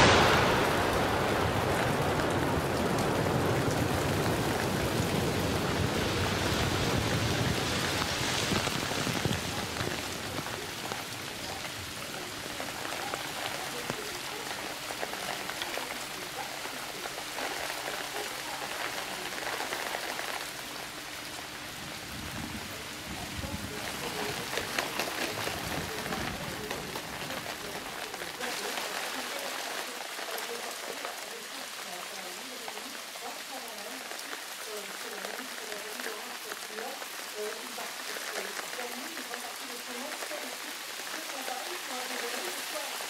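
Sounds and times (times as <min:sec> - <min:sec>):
hailstones falling: 0:00.0 - 0:43.0.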